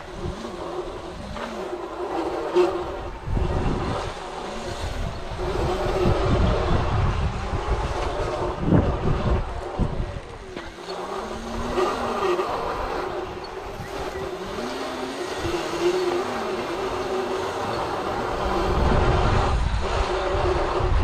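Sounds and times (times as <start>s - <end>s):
electric dirt bike motors whining: 0.0s - 21.0s
tyres rumbling over rough ground: 0.0s - 21.0s
wind buffeting microphone: 0.0s - 21.0s.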